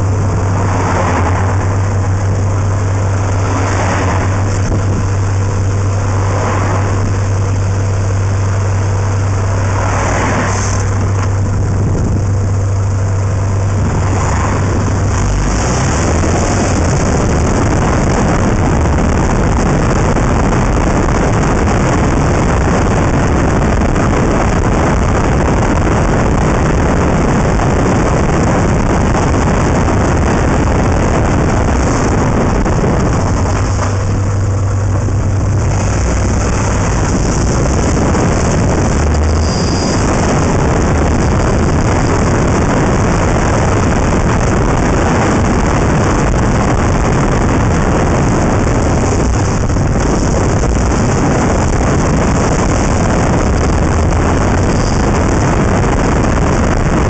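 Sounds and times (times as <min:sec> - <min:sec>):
car engine low drone: 0:00.0 - 0:57.0
road noise: 0:00.0 - 0:57.0
rushing wind: 0:00.0 - 0:57.0.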